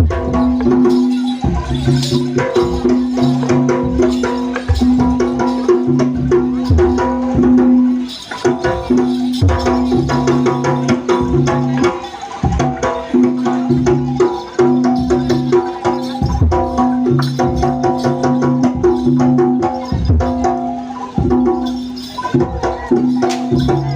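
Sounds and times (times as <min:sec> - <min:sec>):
drums in a quick rhythm: 0:00.0 - 0:23.9
gamelan ensemble playing: 0:00.0 - 0:23.9.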